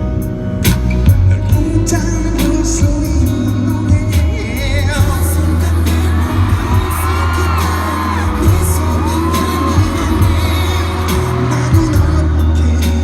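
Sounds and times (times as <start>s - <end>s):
live pop music: 0.0s - 13.0s.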